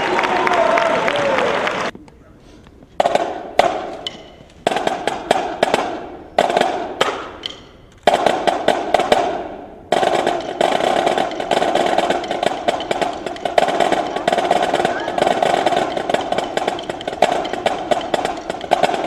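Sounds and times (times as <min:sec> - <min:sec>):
marching drums: 0:03.0 - 0:19.0.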